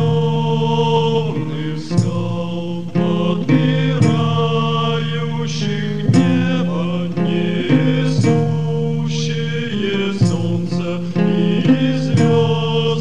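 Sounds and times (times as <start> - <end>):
black metal sustained chords: 0.0 - 13.0.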